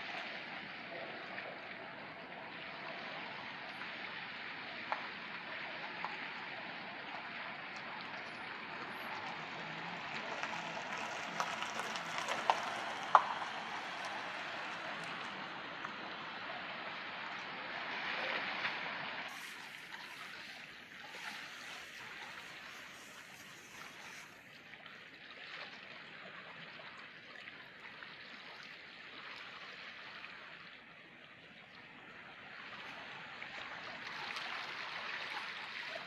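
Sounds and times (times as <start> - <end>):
water lapping and trickling: 0.0 - 36.0.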